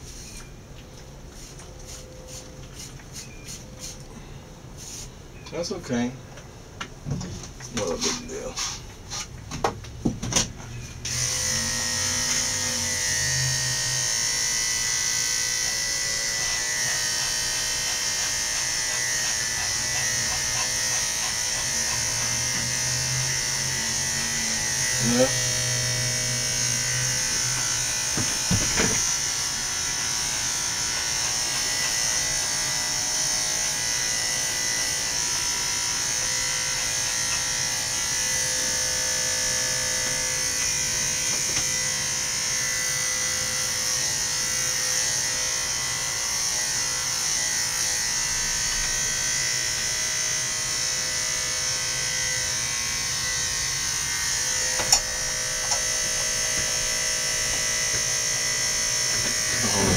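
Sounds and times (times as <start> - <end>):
electric clippers buzzing: 11.0 - 59.9.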